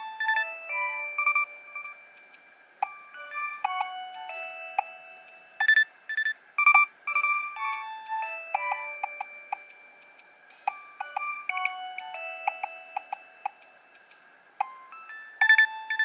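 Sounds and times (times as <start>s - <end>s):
polyphonic phone ringtone: 0.0s - 16.0s.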